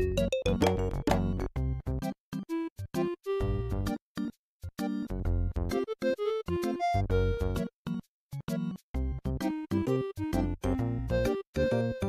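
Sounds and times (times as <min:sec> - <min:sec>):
background music with choppy notes: 0:00.0 - 0:12.0.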